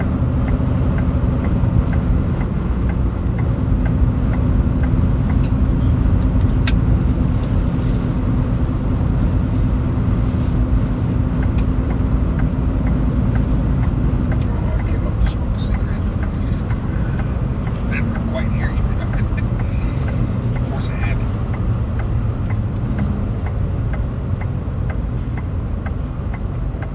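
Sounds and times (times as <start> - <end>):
vehicle engine and road rumble: 0.0 - 26.9.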